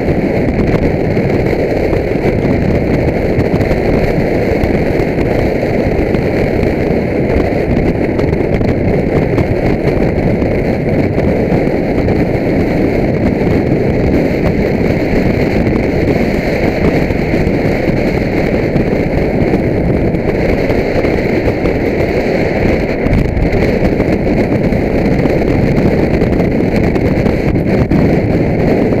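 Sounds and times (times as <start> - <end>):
motorcycle running: 0.0 - 29.0
wind buffeting microphone: 0.0 - 29.0.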